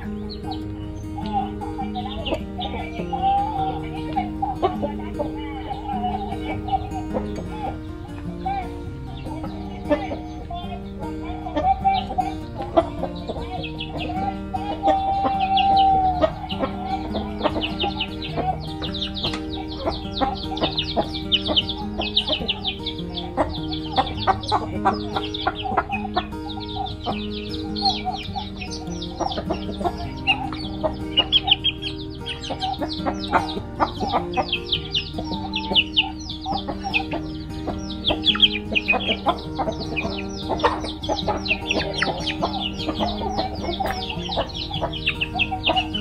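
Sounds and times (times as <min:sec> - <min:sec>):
chicks peeping: 0:00.0 - 0:46.0
hens clucking: 0:00.0 - 0:46.0
soft background music: 0:00.0 - 0:46.0.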